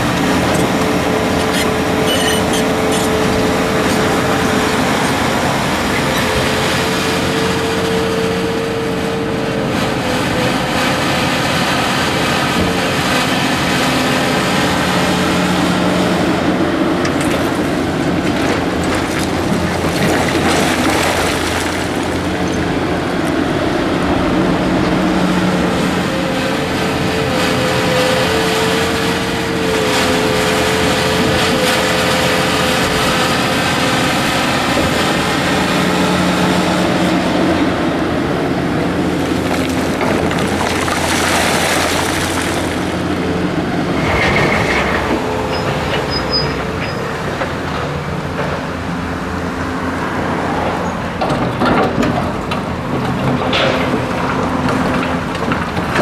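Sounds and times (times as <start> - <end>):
excavator diesel engine and hydraulics: 0.0 - 56.0.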